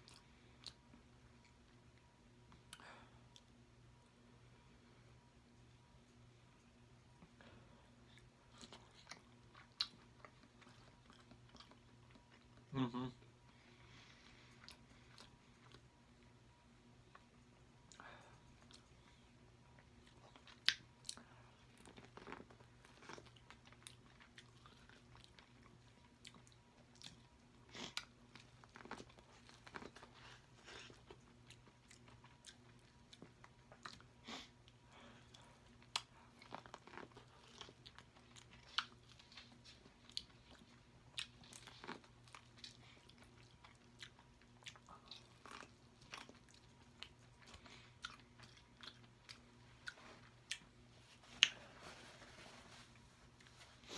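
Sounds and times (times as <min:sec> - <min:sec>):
person chewing corn: 0:00.0 - 0:03.6, 0:07.2 - 0:16.3, 0:17.0 - 0:53.9.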